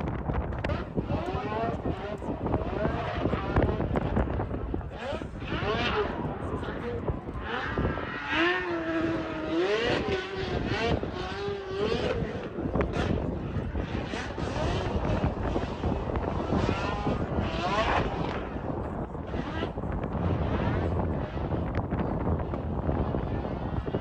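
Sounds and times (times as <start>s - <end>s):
loud steady noise: 0.0s - 24.0s
car engine revving: 0.2s - 24.0s.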